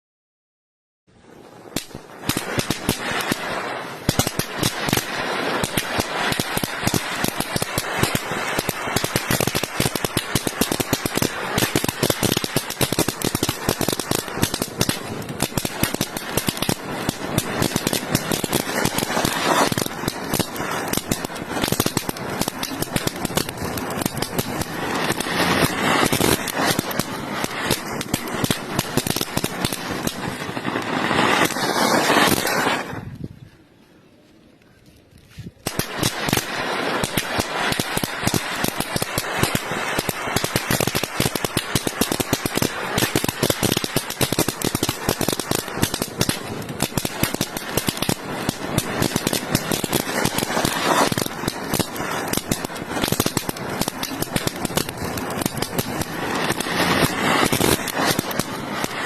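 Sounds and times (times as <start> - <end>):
firecrackers crackling: 1.1 - 59.0
fountain firework hissing: 1.3 - 33.1, 35.6 - 59.0.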